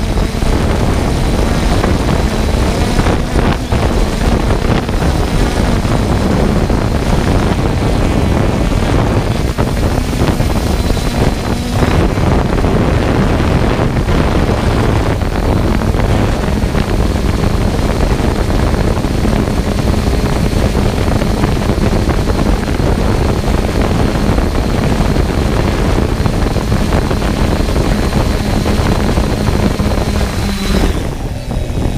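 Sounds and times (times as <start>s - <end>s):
drone propellers whirring: 0.0s - 31.9s
wind noise on microphone: 0.0s - 31.9s.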